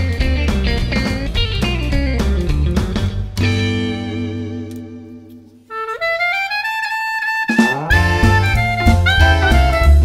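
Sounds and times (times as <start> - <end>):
jazz music: 0.0 - 10.0.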